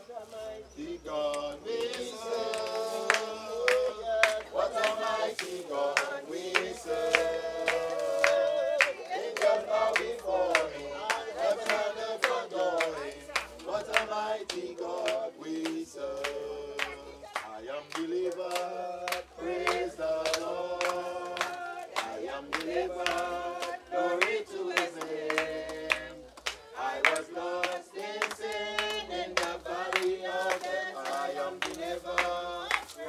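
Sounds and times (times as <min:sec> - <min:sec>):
congregation singing a hymn: 0:00.0 - 0:33.0
hands clapping in time: 0:01.2 - 0:33.0.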